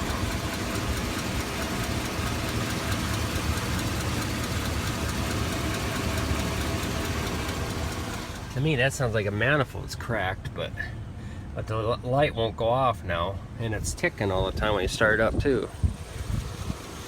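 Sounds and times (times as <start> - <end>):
car engine idling with ticking: 0.0 - 17.0.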